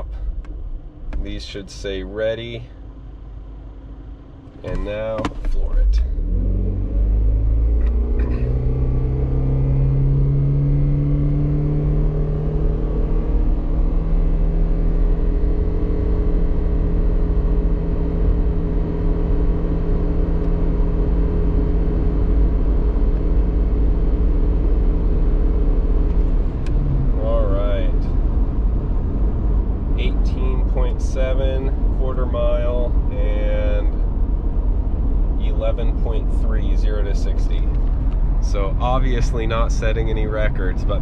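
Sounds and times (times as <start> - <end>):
car engine drone accelerating: 0.0 - 41.0
low road rumble: 0.0 - 41.0.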